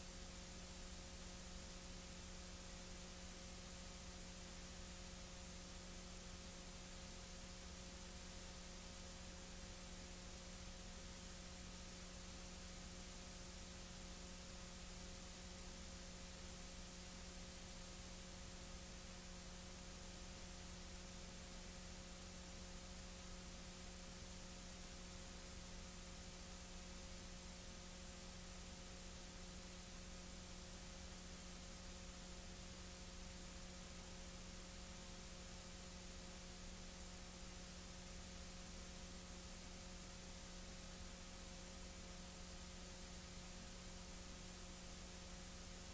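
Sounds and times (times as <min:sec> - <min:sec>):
faint steady hiss: 0:00.0 - 0:45.9
low electrical hum: 0:00.0 - 0:45.9.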